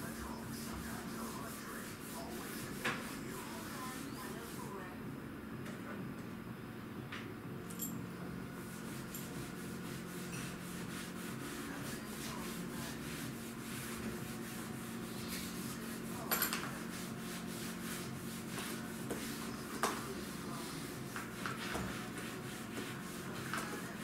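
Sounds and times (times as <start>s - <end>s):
hand scrubbing a worktop: 0.0s - 4.8s, 8.6s - 24.0s
steady low hum: 0.0s - 24.0s.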